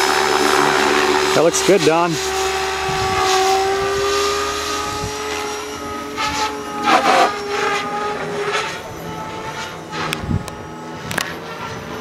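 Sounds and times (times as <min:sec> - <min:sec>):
model helicopter motor whine: 0:00.0 - 0:12.0.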